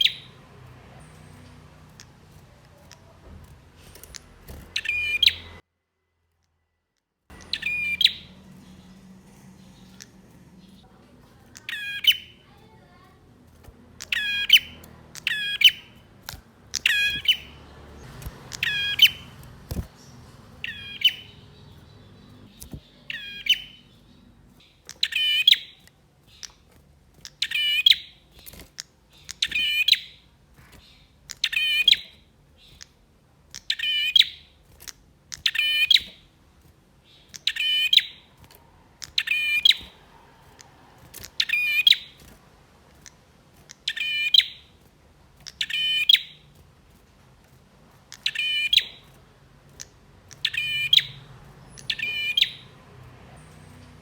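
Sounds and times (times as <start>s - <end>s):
bird singing rapid high notes: 0.0s - 5.6s, 7.3s - 36.3s, 37.0s - 42.4s, 43.0s - 46.6s, 48.1s - 54.0s.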